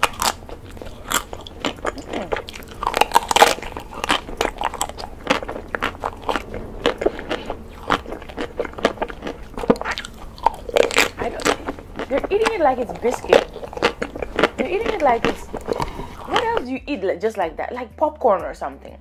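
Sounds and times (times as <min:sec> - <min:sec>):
chocolate shell crunching: 0:00.0 - 0:16.8.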